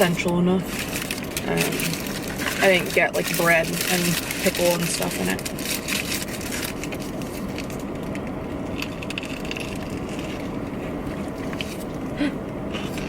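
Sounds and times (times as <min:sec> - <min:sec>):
car interior rumble: 0:00.0 - 0:13.0
food packaging crunching and rustling: 0:00.0 - 0:13.0.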